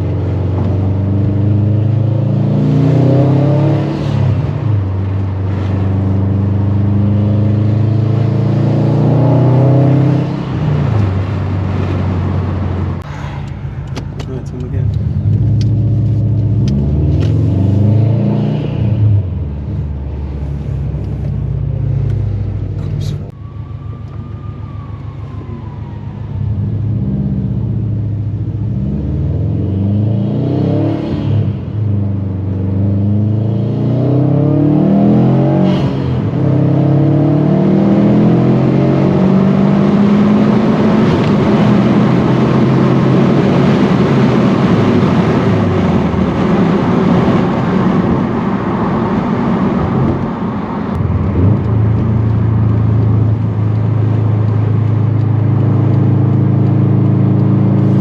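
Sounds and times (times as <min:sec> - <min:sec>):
car engine revving: 0:00.0 - 0:23.8, 0:26.5 - 0:58.0.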